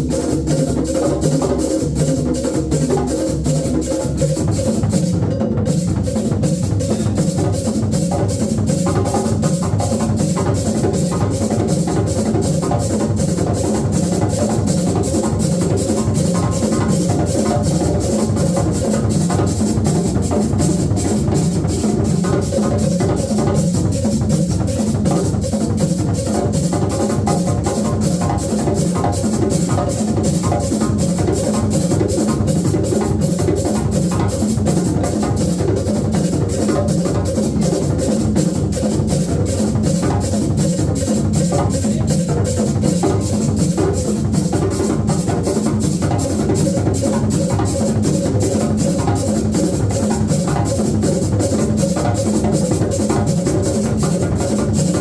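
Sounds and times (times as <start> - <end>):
drum ensemble playing fast beat: 0.0 - 55.0.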